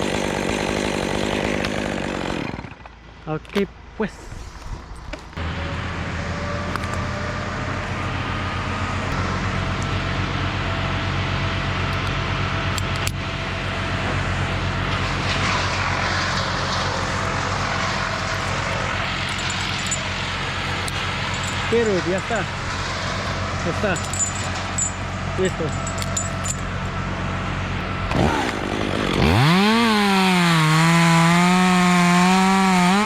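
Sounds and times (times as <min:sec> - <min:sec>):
engine droning: 0:02.4 - 0:33.0.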